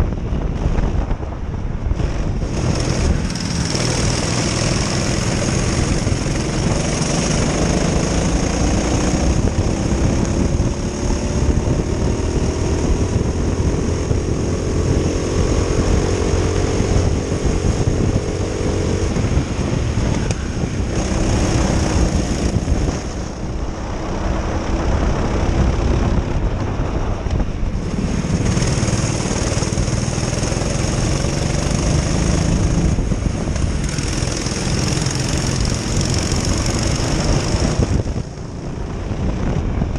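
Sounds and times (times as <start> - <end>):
kart engine revving: 1.9 - 27.0, 27.7 - 38.6.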